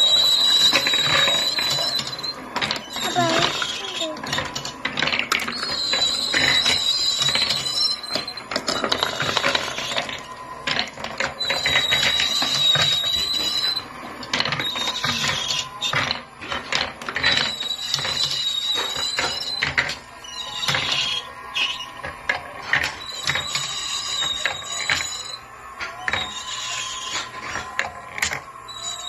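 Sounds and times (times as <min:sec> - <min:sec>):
marbles rattling down wooden run: 0:00.0 - 0:25.4.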